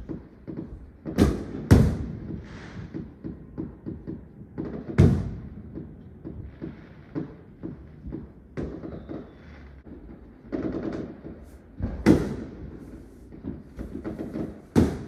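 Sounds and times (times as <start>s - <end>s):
fireworks popping and cracking: 0.0s - 15.0s.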